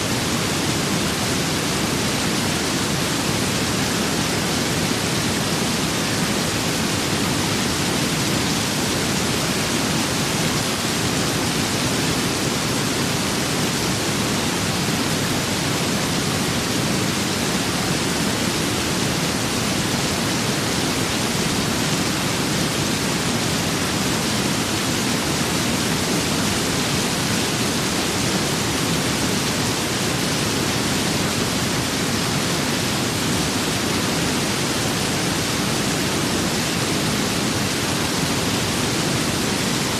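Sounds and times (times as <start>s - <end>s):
rain and wind hiss: 0.0s - 39.9s.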